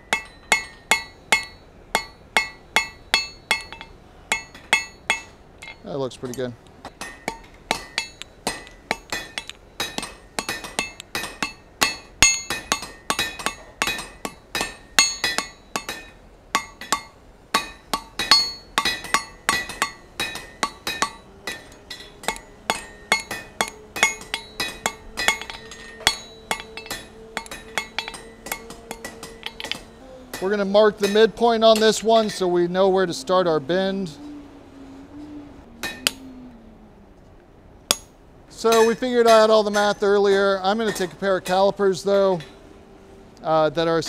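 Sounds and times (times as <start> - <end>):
hammer striking steel on anvil: 0.0 - 32.9, 35.8 - 36.4, 37.9 - 42.6.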